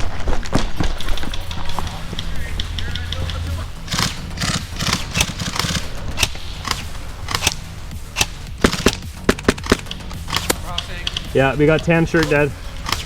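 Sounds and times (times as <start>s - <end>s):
airsoft guns firing: 0.0s - 13.0s.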